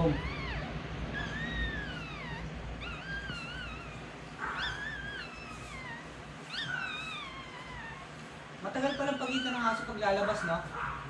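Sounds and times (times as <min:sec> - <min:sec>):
puppy squealing: 0:00.0 - 0:11.0.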